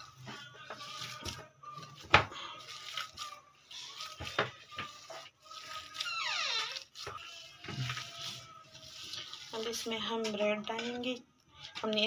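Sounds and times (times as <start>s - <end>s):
hands mixing potato in a bowl: 0.0s - 12.0s.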